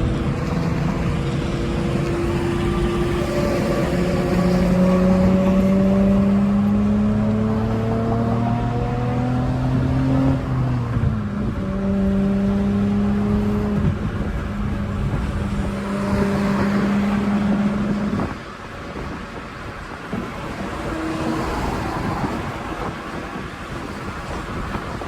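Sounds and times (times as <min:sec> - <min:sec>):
car engine exhaust accelerating: 0:00.0 - 0:25.0.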